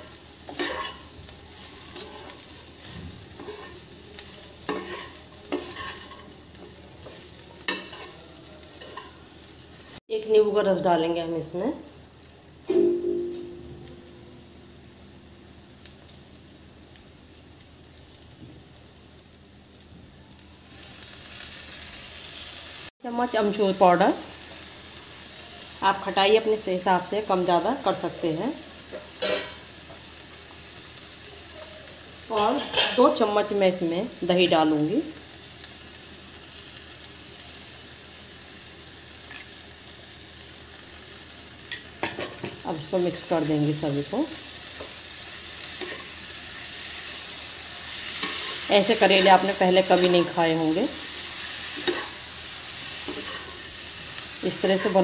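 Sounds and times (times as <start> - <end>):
vegetables sizzling in pan: 0.0 - 55.0.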